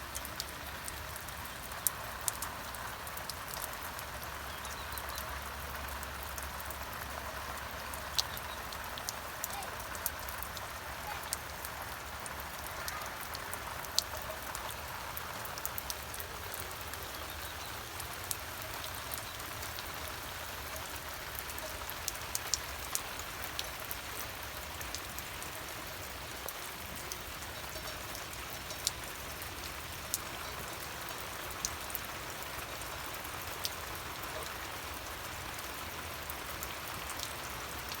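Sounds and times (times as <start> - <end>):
rain hissing: 0.0 - 38.0
raindrops ticking: 0.0 - 38.0.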